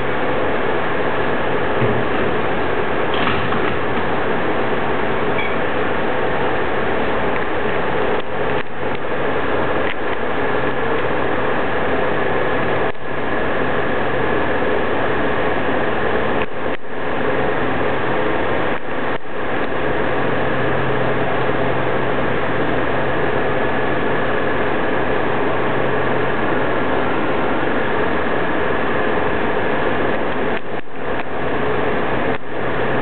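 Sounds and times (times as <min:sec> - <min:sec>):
machine whirring hum: 0:00.0 - 0:33.0.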